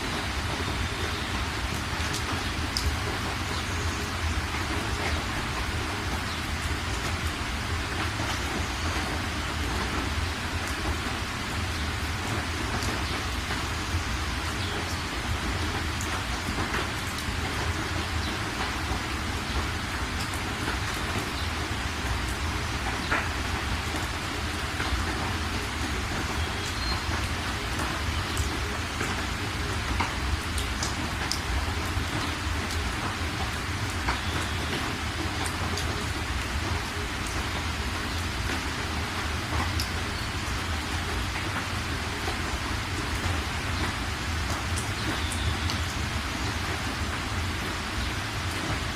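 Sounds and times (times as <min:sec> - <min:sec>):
raindrops ticking: 0:00.0 - 0:48.9
steady rain hiss: 0:00.0 - 0:48.9.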